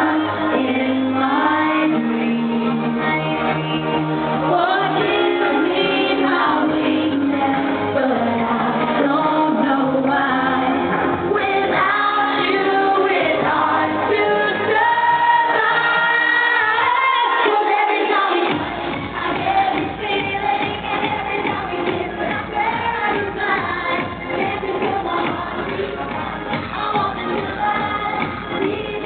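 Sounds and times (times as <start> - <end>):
dance-pop backing track: 0.0 - 29.0
woman singing: 0.0 - 29.0.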